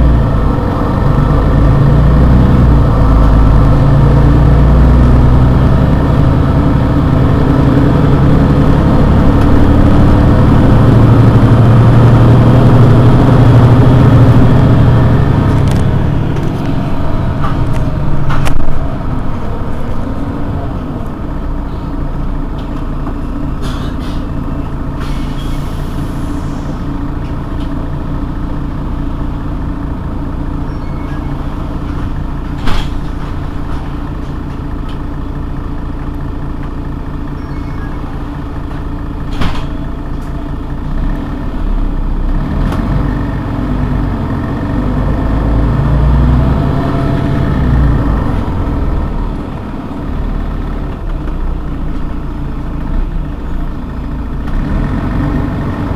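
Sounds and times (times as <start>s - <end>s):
bus engine idling: 0.0s - 55.9s
deep rumble: 0.0s - 55.9s.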